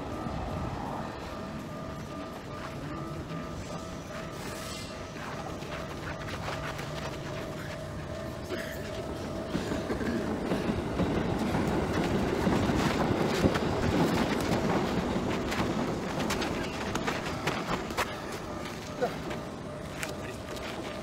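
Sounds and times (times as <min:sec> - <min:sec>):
train wheels clattering on tracks: 0:00.0 - 0:21.0.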